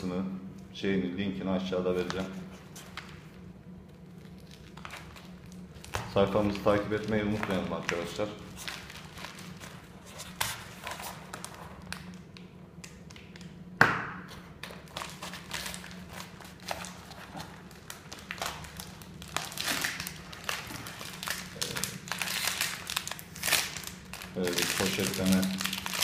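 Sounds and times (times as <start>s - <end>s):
plastic bag rustling and crinkling: 2.0s - 12.2s, 14.7s - 26.0s.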